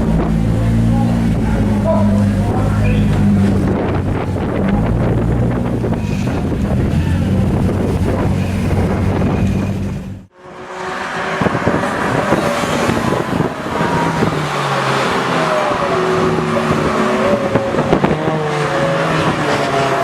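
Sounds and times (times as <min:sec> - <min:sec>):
car engine and exhaust note: 0:00.0 - 0:20.0
constant rush of noise: 0:00.0 - 0:20.0.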